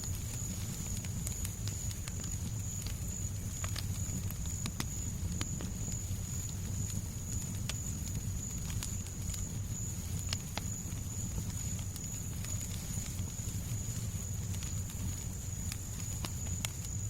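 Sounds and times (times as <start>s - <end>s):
fireplace crackling and popping: 0.0s - 17.0s
soft white noise hiss: 0.0s - 17.0s.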